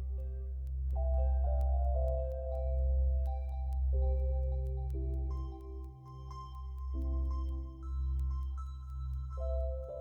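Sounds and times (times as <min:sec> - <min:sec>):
ambient music: 0:00.0 - 0:10.0.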